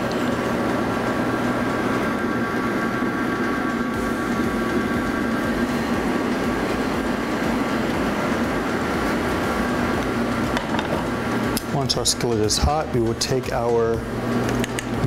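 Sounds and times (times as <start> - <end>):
kitchen equipment drone: 0.0 - 15.0.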